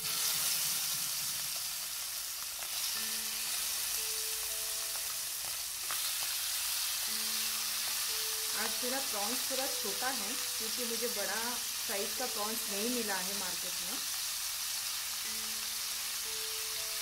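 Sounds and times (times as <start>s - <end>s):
prawns sizzling in hot oil: 0.0s - 17.0s.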